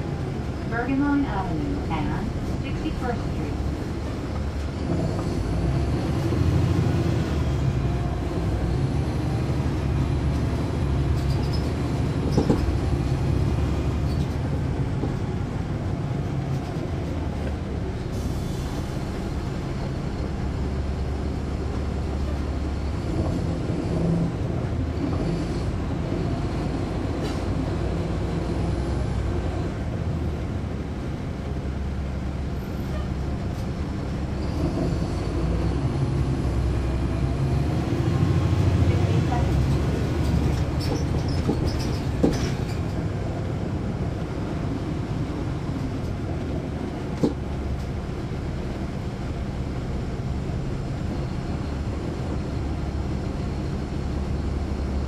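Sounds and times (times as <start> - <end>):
bus diesel engine rumble: 0.0 - 55.0.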